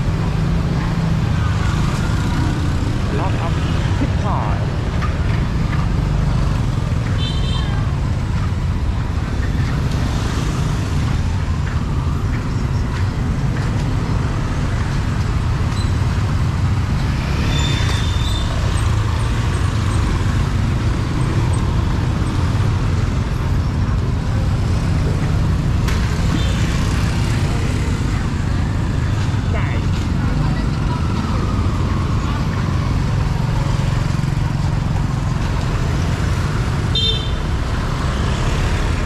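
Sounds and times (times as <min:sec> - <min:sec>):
passing vehicles rumbling: 0:00.0 - 0:39.0.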